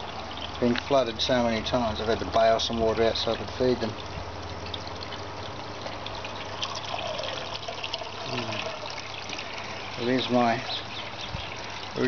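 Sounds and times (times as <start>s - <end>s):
patter of water drops: 0.0s - 12.0s
water trickling and splashing: 0.0s - 12.0s.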